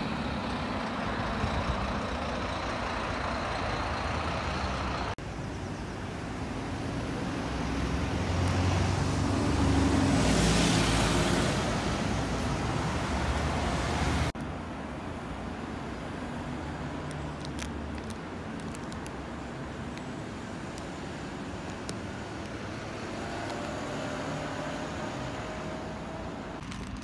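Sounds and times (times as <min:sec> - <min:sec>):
bus passing by: 0:00.0 - 0:27.0
steady traffic noise: 0:00.0 - 0:27.0.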